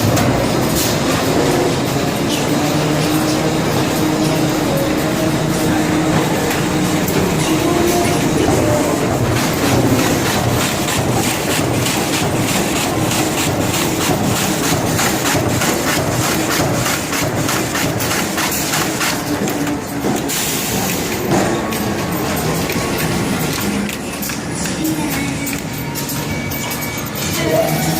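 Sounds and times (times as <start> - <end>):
industrial machine running: 0.0 - 27.9
regular mechanical clacking: 0.0 - 27.9.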